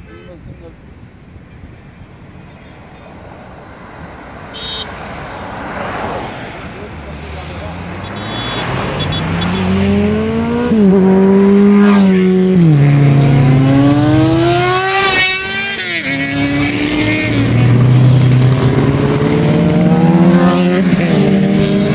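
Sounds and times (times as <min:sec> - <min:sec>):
motorbikes passing at speed: 0:03.2 - 0:21.9.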